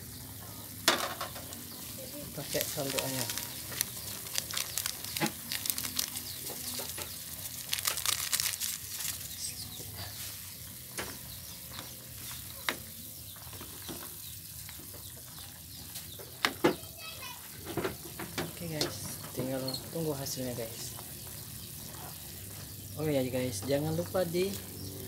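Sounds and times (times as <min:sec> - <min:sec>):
soup boiling and bubbling: 0:00.0 - 0:25.0.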